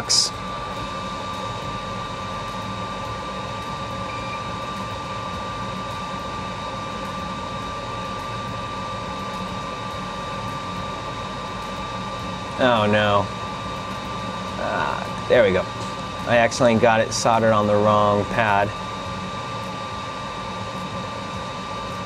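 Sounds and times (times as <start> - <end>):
fan humming: 0.0 - 22.0
high-pitched whine: 0.0 - 22.0.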